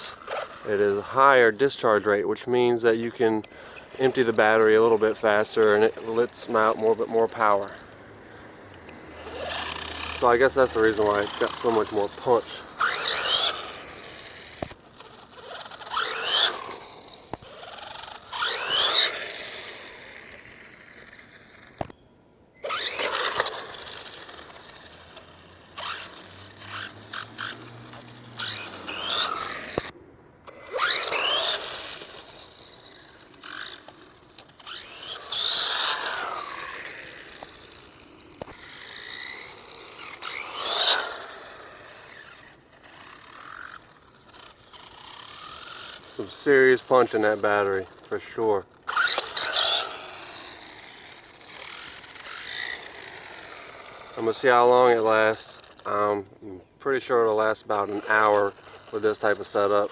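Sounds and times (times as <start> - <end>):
toy truck motor whining: 0.0 - 22.0, 22.6 - 59.9.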